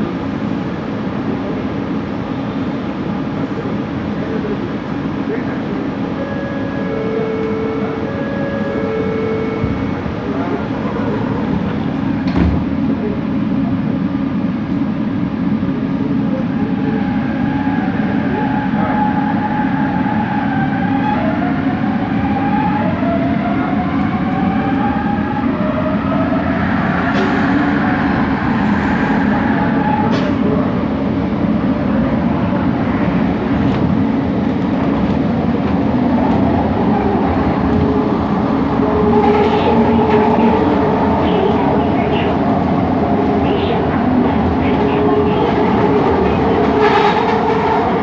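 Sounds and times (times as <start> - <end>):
metro train interior rumble: 0.0 - 48.0.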